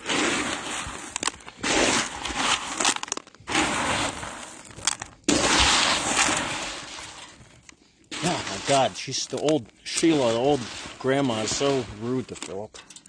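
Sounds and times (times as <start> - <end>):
footsteps crunching through snow: 0.0 - 12.6.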